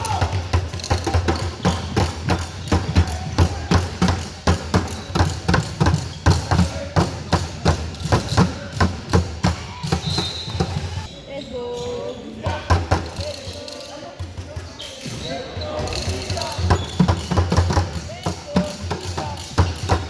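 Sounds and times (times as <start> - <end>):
rapid rhythmic thumps: 0.0 - 11.1, 12.5 - 20.0.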